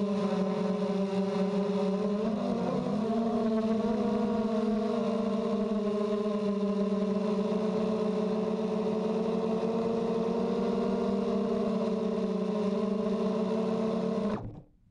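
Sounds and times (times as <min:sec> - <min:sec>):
quadcopter motors humming: 0:00.0 - 0:14.6.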